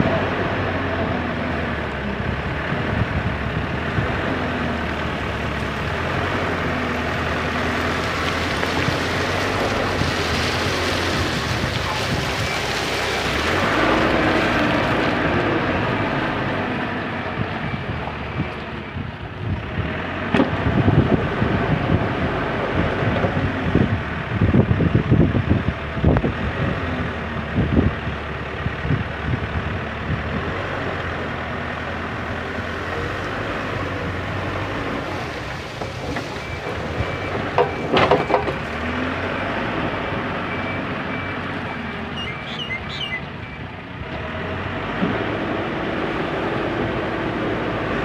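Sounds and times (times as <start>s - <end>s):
diesel engine running under load: 0.0s - 48.0s.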